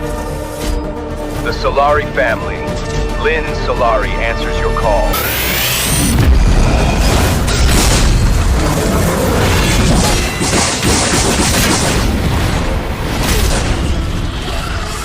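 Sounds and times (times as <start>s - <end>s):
cinematic music: 0.0s - 15.0s.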